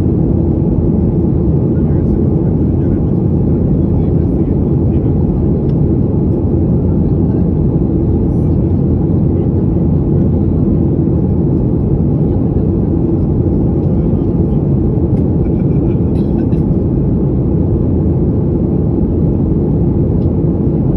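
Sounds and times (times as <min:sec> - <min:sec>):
jet engine cabin rumble: 0:00.0 - 0:20.9.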